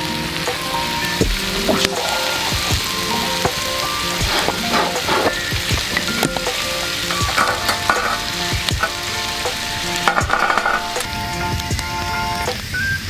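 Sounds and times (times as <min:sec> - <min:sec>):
meat and onions sizzling: 0:00.0 - 0:13.0.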